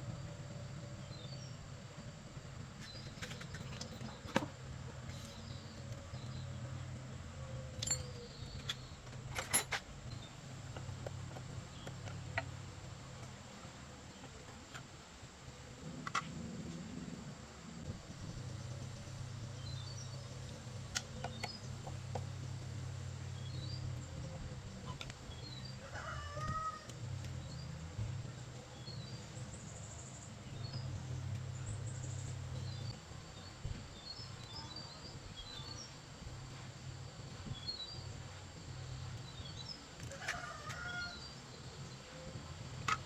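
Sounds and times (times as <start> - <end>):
low background hum: 0.0 - 43.0
small birds chirping: 0.1 - 16.6, 17.8 - 43.0.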